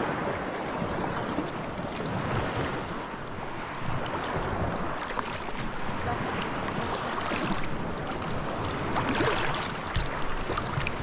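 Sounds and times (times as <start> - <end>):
sea water sloshing and splashing: 0.0 - 11.0.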